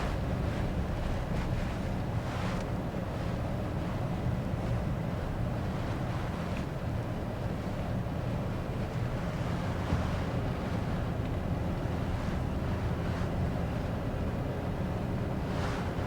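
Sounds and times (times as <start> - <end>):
road and engine rumble in vehicle: 0.0 - 16.0.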